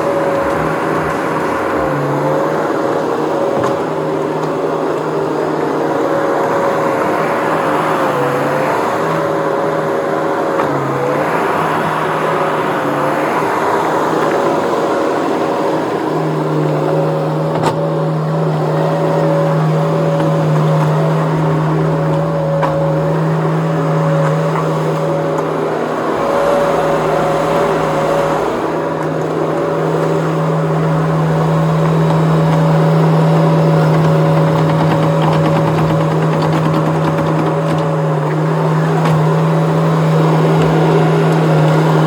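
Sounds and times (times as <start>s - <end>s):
skid steer engine running: 0.0s - 42.0s.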